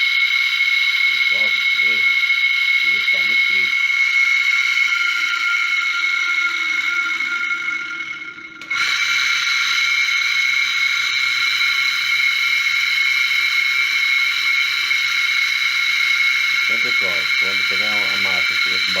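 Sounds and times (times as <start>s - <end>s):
washing machine motor whine: 0.0s - 19.0s.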